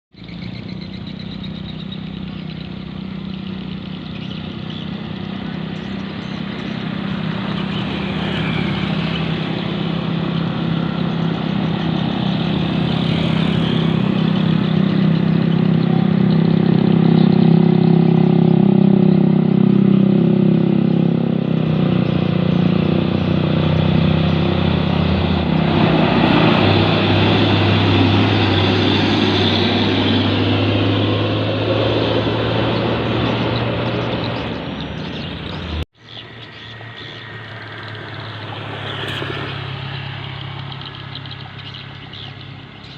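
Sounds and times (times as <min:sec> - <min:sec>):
truck diesel engine labouring: 0:01.4 - 0:42.9.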